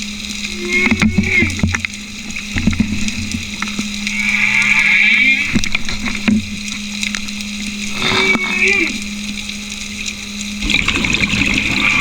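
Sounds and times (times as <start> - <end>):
steady low hum: 0.0 - 12.0
whale song underwater: 0.0 - 12.0.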